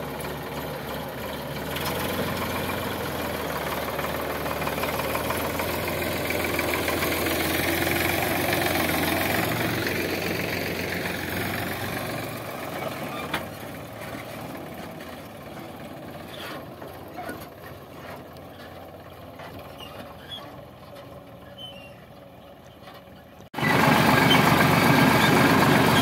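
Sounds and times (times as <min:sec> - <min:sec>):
tractor diesel engine: 0:00.0 - 0:26.0.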